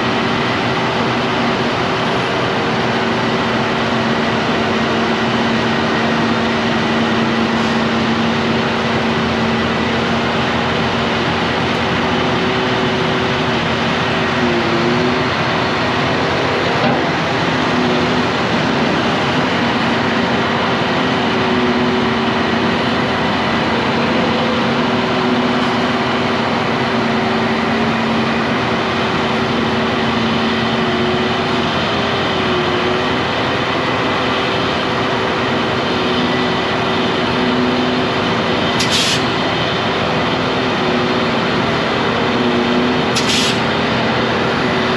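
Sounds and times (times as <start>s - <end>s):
heavy engine running: 0.0s - 44.9s
rushing noise: 0.0s - 44.9s.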